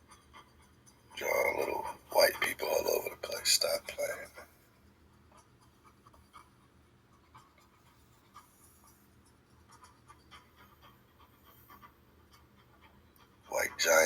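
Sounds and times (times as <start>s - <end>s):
quiet clicks and light scratches: 0.0s - 14.0s.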